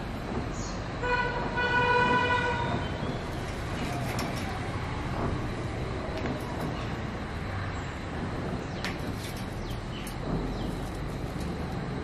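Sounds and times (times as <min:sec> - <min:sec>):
distant traffic: 0:00.0 - 0:12.0.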